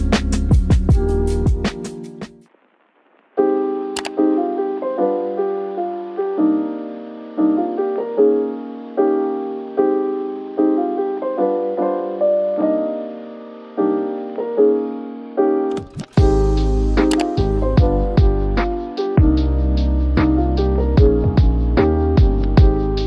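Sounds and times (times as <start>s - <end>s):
soft piano chords: 3.4s - 23.0s.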